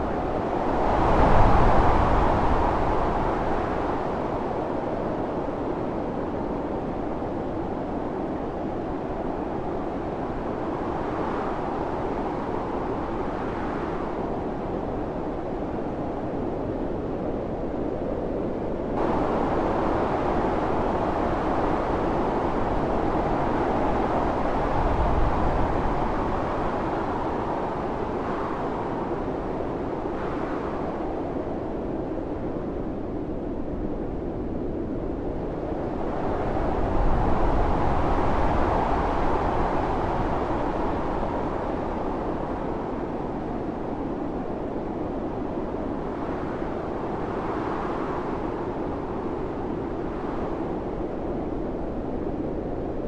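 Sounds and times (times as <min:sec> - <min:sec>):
blizzard wind gusting: 0:00.0 - 0:53.0.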